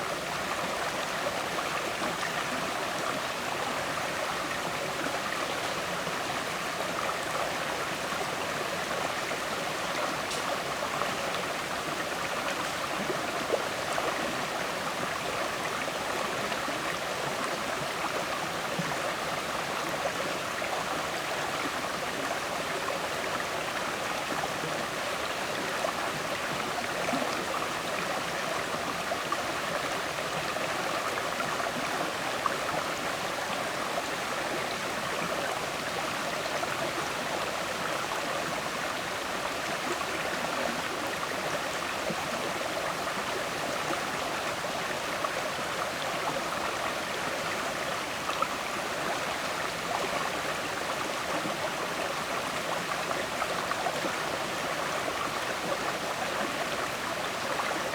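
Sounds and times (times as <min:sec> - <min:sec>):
river water flowing over stones: 0:00.0 - 0:57.9.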